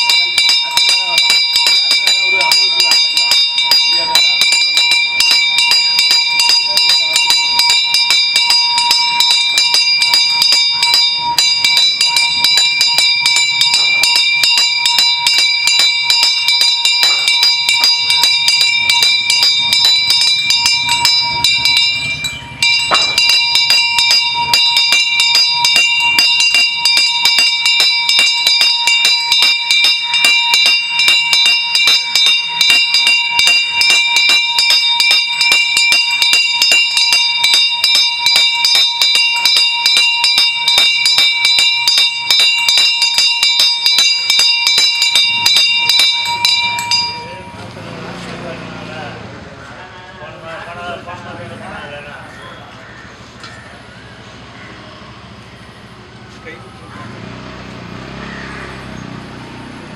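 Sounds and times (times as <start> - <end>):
metal bell ringing rapidly: 0.0 - 48.9.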